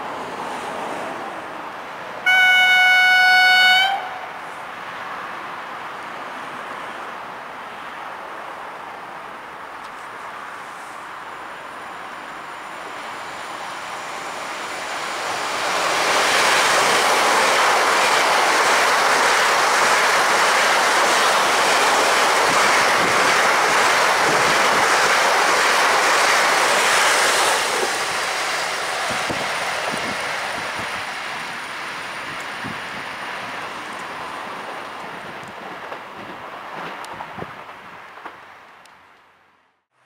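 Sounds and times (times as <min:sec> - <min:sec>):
train rushing over rails: 0:00.0 - 0:38.6.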